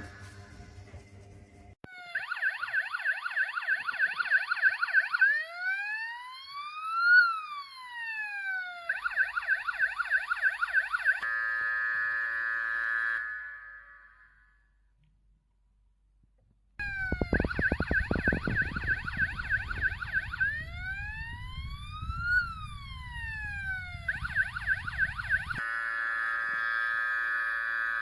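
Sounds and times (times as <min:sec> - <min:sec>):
toy police siren: 0:01.8 - 0:14.5, 0:16.8 - 0:28.0.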